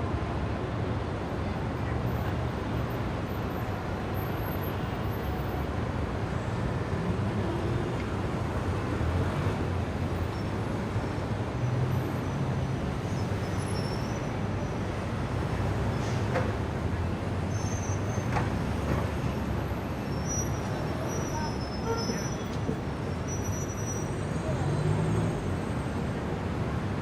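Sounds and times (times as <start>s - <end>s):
street traffic din: 0.0s - 27.0s.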